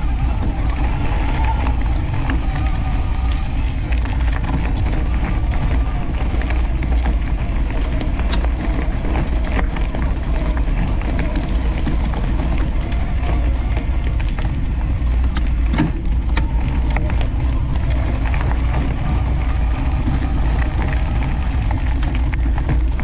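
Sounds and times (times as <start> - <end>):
bike tyres rolling over gravel: 0.0 - 23.0.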